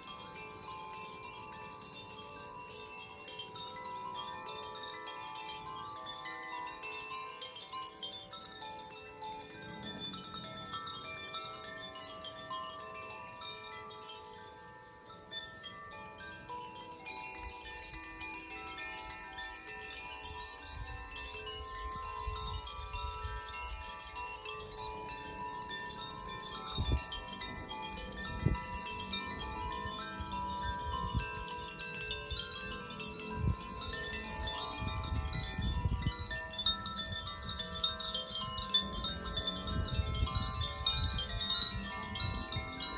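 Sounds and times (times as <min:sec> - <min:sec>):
wind chimes ringing: 0:00.0 - 0:42.9.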